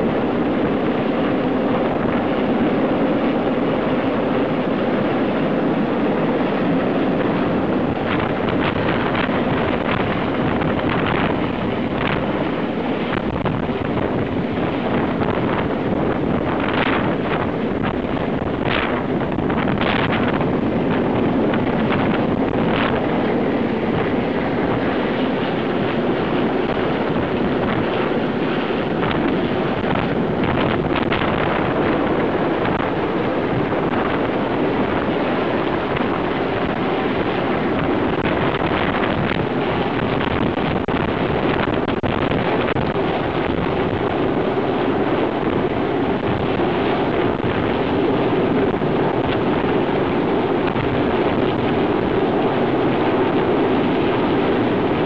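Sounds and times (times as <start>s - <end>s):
helicopter rotor and turbine noise: 0.0s - 55.0s
wind buffeting microphone: 0.0s - 55.0s.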